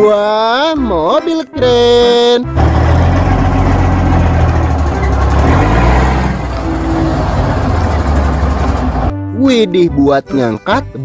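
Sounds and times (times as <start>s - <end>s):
truck diesel engine rumbling: 1.6s - 10.6s.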